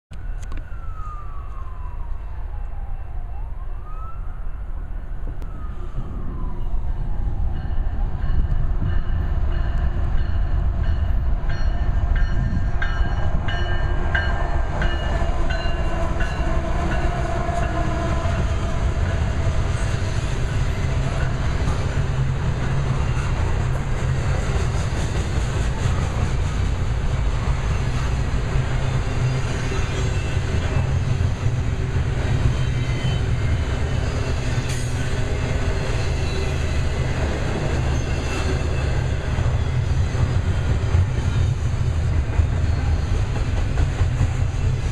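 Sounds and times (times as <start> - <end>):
diesel locomotive engines under load: 5.2 - 44.9
steel wheels rumbling on rail: 5.4 - 44.9.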